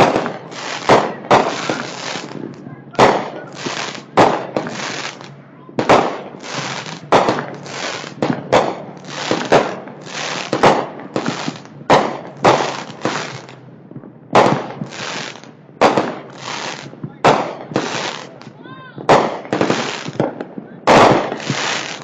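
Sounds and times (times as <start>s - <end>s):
crackling firework tails: 0.0s - 22.0s
fireworks banging: 0.0s - 22.0s.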